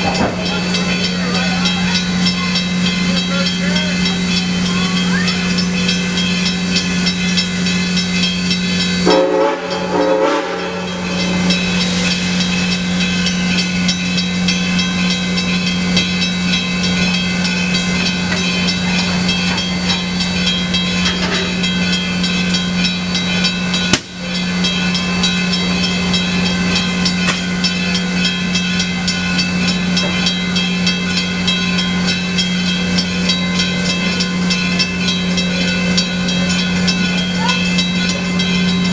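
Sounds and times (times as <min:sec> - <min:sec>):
locomotive humming: 0:00.0 - 0:38.9.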